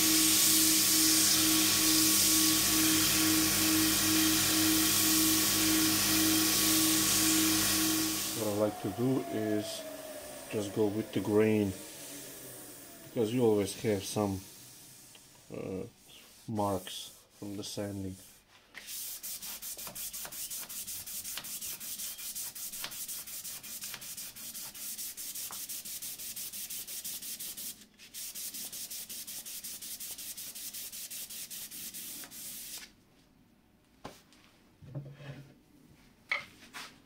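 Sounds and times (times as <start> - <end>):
sandpaper strokes on wood: 0.0 - 32.8.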